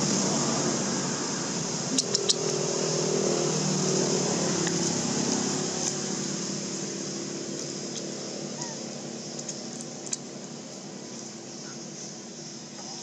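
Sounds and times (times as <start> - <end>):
constant high hiss: 0.0 - 13.0
vehicle engine running: 0.0 - 13.0.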